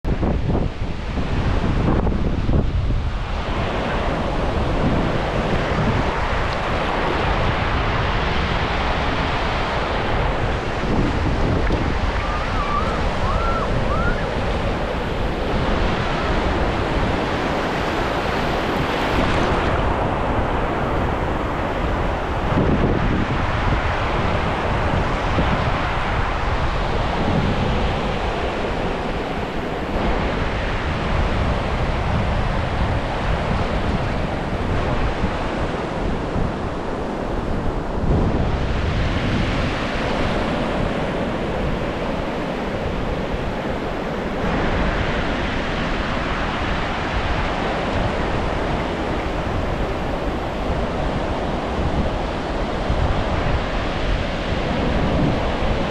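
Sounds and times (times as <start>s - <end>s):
wind rumbling on microphone: 0.0s - 55.9s
ocean surf breaking on shore: 0.1s - 55.9s.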